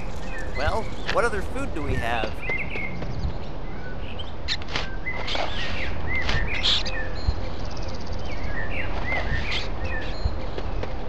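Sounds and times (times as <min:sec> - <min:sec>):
birds chirping and singing: 0:00.0 - 0:10.7.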